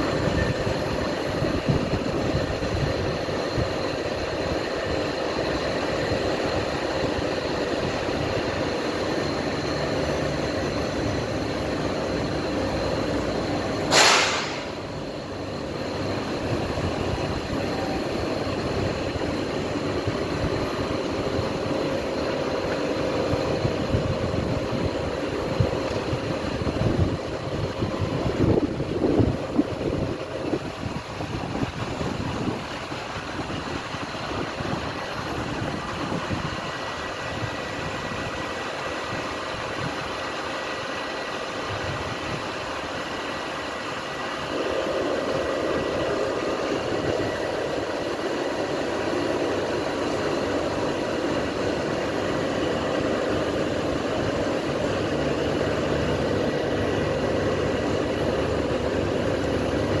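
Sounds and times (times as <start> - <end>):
train engine humming: 0.0 - 60.0.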